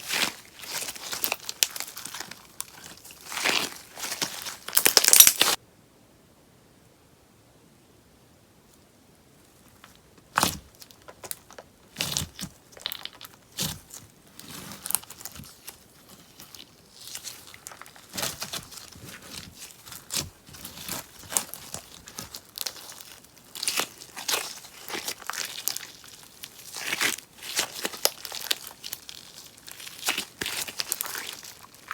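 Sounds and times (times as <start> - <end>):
slime crackling and popping: 0.0 - 5.6, 10.4 - 31.9.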